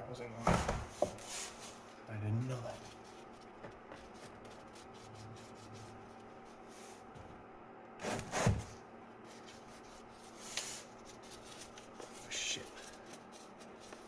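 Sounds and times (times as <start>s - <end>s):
faint rubbing and handling: 1.0s - 7.4s, 8.0s - 14.0s.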